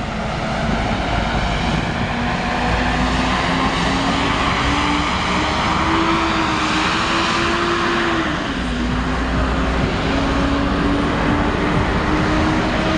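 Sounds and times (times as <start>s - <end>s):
diesel bus engine pulling away: 0.0s - 12.9s.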